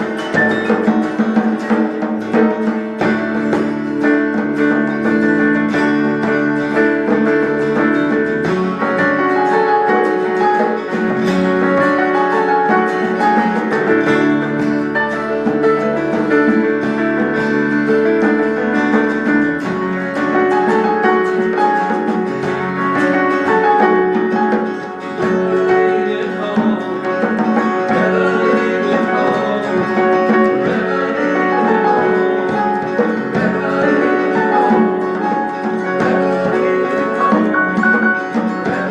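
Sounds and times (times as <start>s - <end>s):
plucked guitar music: 0.0s - 38.9s.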